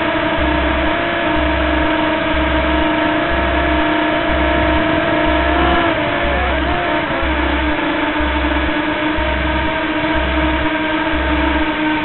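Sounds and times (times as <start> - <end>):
electronic drone: 0.0 - 12.0
steady bass pulse: 0.0 - 12.0.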